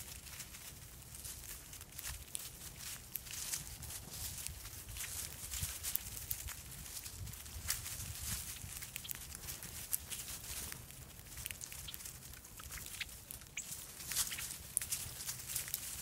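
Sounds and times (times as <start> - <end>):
birds pecking at seed: 0.0 - 16.0
faint low outdoor rumble: 0.0 - 16.0.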